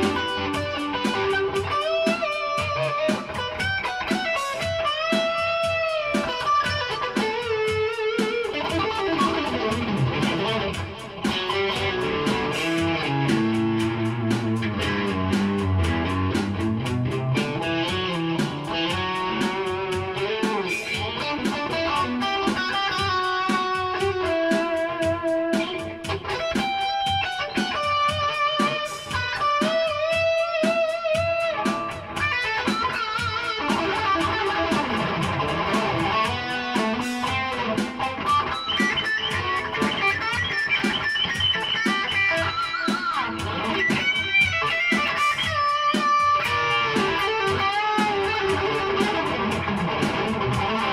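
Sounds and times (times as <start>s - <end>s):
electric guitar lead: 0.0s - 50.9s.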